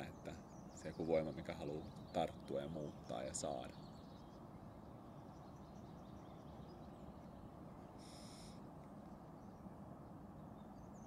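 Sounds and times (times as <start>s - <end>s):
distant birds chirping: 0.0s - 11.0s
steady low hiss: 0.0s - 11.0s.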